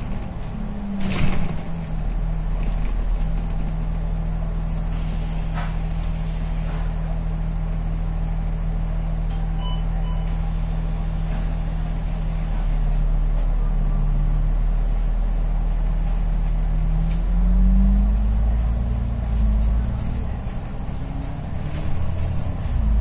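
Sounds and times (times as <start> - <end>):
bus engine idling: 0.0 - 23.0.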